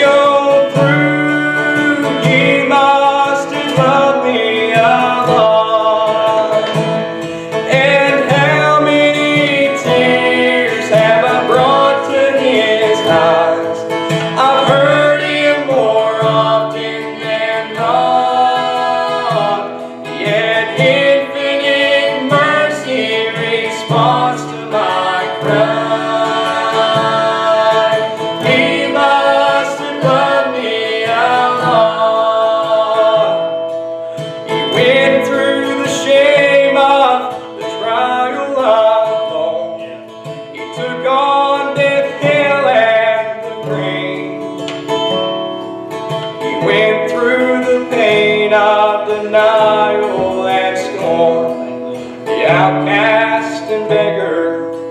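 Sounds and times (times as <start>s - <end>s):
country gospel instrumental: 0.0s - 54.9s
guitar playing melody: 0.0s - 54.9s.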